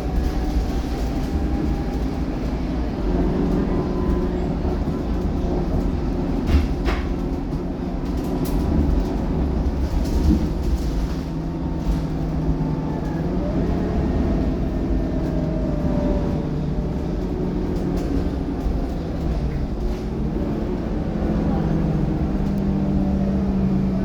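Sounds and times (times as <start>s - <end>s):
bus diesel engine humming: 0.0s - 24.0s.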